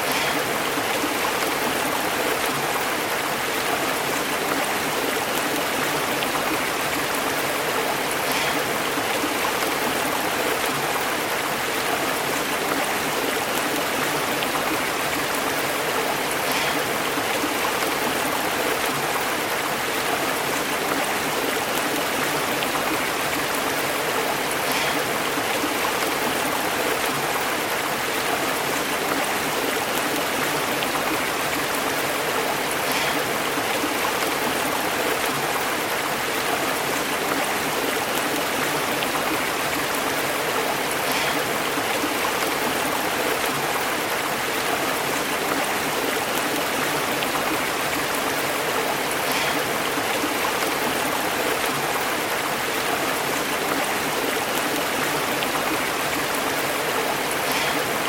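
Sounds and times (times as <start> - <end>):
stream burbling over rocks: 0.0 - 58.0.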